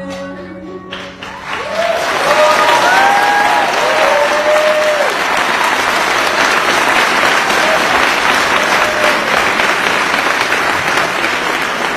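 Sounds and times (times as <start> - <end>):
large audience applauding: 0.9 - 11.9.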